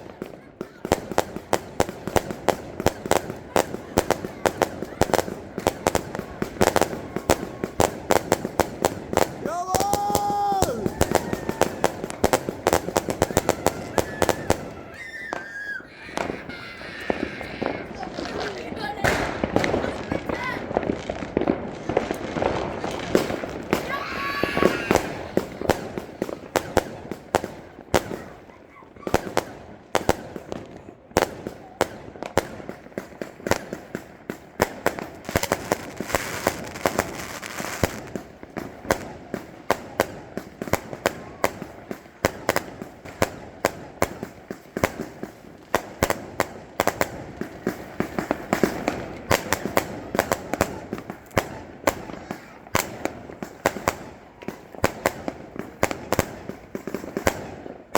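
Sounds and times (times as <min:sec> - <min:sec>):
firecrackers banging: 0:00.0 - 0:57.9.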